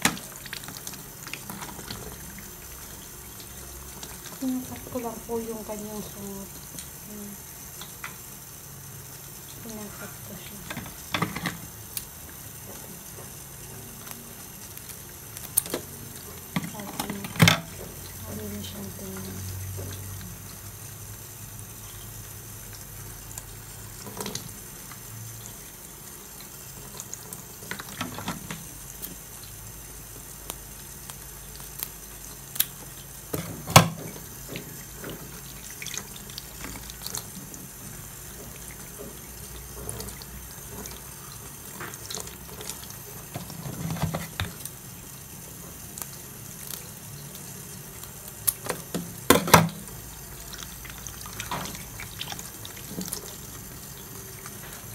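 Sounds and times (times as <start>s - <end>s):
tap water running into sink: 0.0s - 54.9s.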